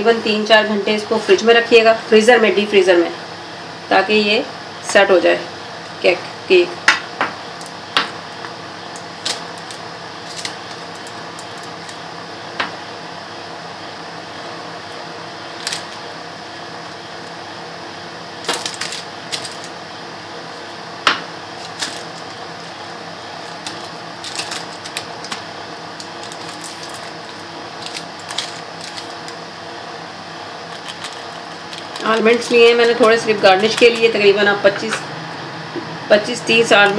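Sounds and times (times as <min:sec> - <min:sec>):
steady background hum: 0:00.0 - 0:36.9.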